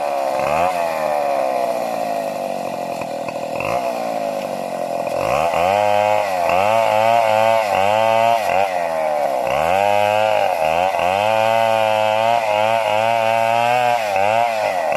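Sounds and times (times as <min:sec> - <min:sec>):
chainsaw engine revving: 0:00.0 - 0:14.9.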